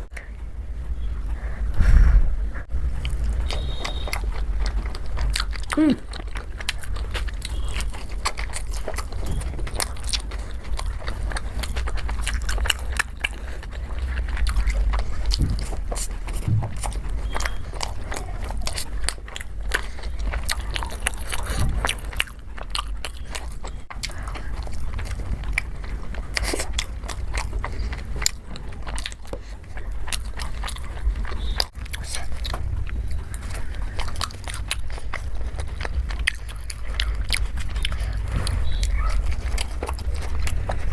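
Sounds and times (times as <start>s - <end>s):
low steady hum: 0.0s - 40.9s
mouth clicks and smacks: 1.8s - 40.9s
person chewing food: 2.0s - 40.9s.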